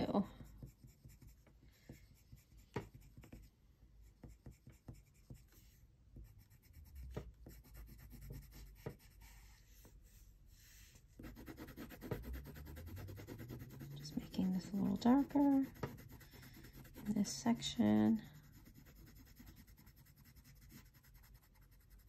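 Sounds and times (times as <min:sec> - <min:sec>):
pencil scratching on paper: 0:00.1 - 0:22.0.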